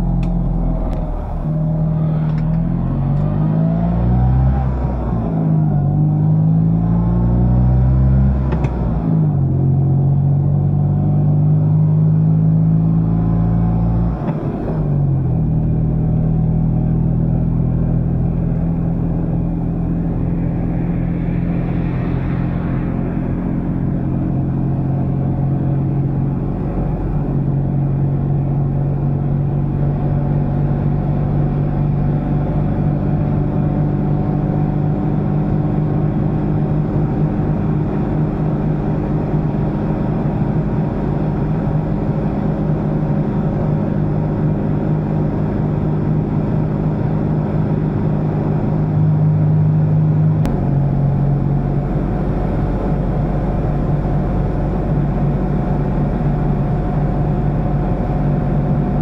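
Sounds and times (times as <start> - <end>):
car engine droning: 0.0 - 59.0
road and tyre noise: 0.0 - 59.0.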